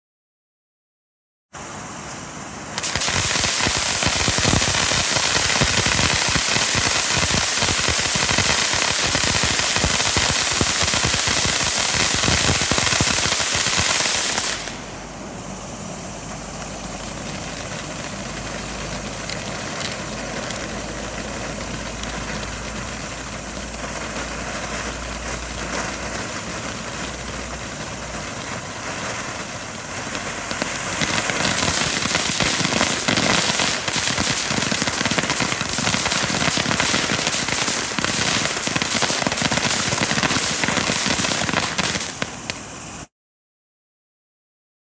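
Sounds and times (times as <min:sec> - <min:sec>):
firework fountain hissing: 0:01.5 - 0:43.1
crackles and pops: 0:02.7 - 0:43.1.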